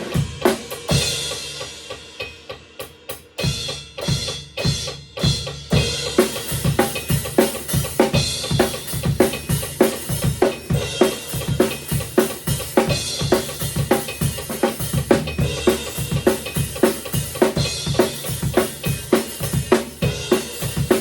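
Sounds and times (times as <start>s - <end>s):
rock drum beat: 0.0s - 21.0s.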